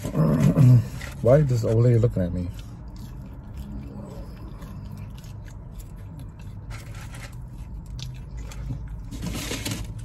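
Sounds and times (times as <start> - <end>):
low steady hum: 0.0 - 10.0
person chewing a burger: 0.0 - 10.0.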